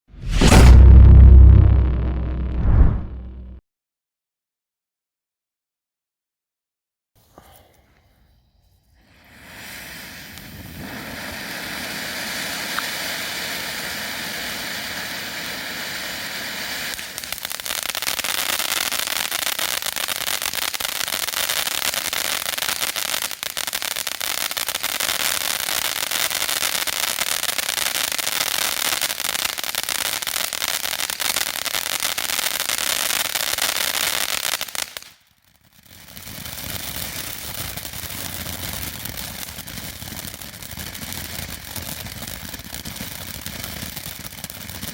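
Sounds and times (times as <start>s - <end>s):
firework fountain hissing crackle: 8.9s - 44.9s.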